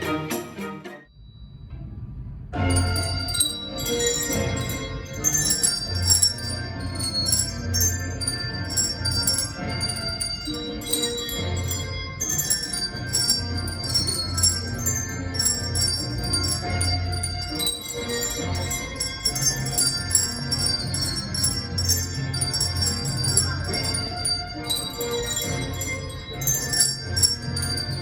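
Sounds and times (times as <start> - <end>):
handbell ensemble playing: 2.6 - 28.0.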